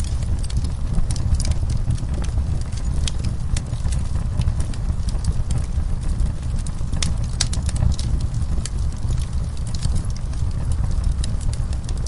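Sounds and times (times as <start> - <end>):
fire flames rumbling: 0.0 - 12.0
logs crackling and popping: 0.0 - 12.0.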